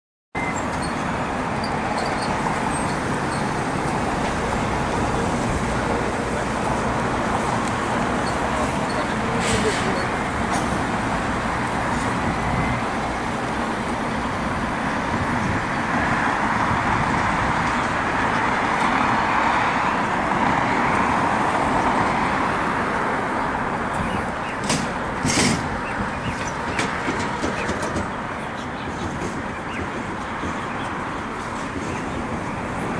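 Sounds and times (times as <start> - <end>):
road traffic noise: 0.3 - 32.9.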